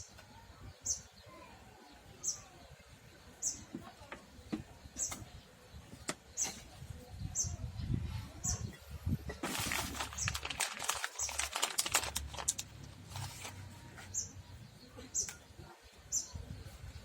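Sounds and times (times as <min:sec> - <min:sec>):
small bird chirping: 0:00.0 - 0:12.2, 0:13.1 - 0:17.0.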